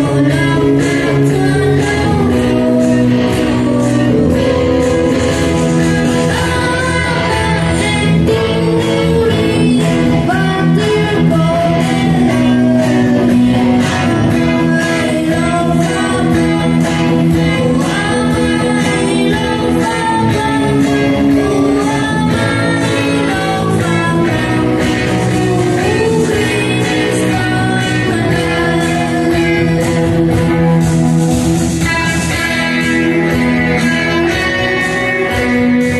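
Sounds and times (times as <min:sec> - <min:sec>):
person singing: 0:00.0 - 0:31.0, 0:31.8 - 0:35.9
instrumental accompaniment: 0:00.0 - 0:35.9.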